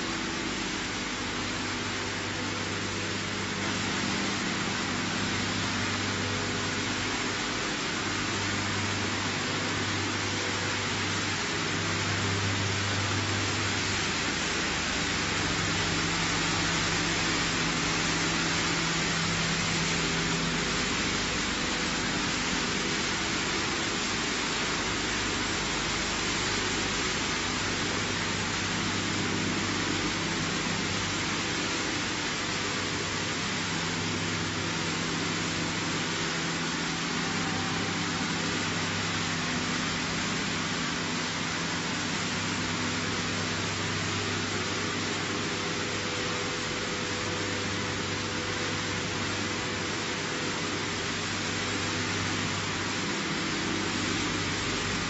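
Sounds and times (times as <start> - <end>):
hiss of machinery and water: 0.0 - 55.0
low electric motor hum: 0.0 - 55.0.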